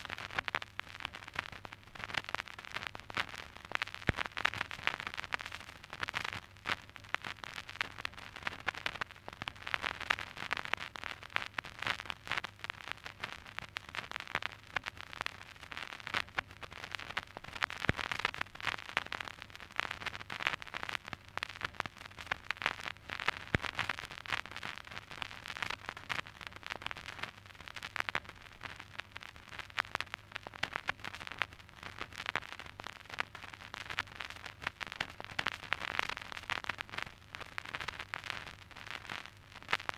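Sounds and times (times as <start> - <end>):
vinyl record crackle: 0.0 - 39.9.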